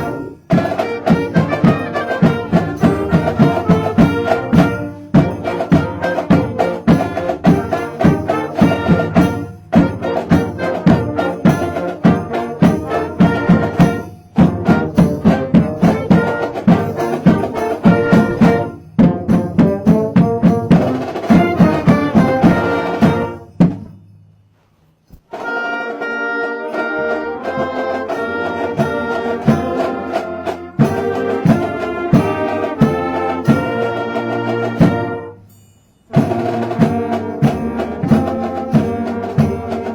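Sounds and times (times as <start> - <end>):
brass band playing a carol: 0.0 - 24.0, 25.3 - 39.9.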